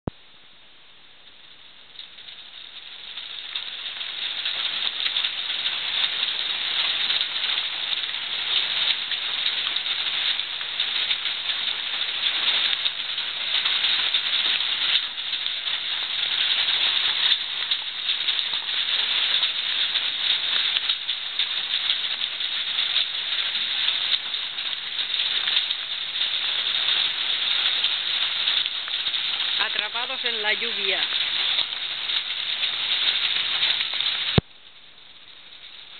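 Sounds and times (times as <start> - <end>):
heavy rain pouring: 1.2 - 35.9.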